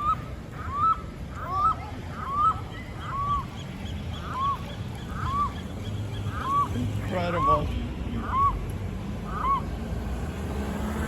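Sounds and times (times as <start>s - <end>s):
waterfowl honking: 0.0s - 9.7s.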